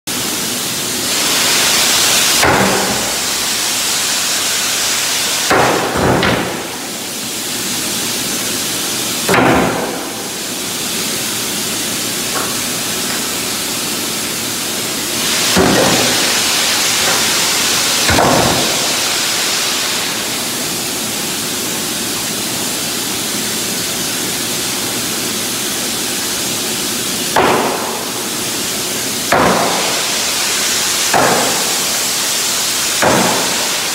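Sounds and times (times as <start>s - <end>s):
loud rushing shop noise: 0.1s - 21.2s, 27.3s - 33.9s.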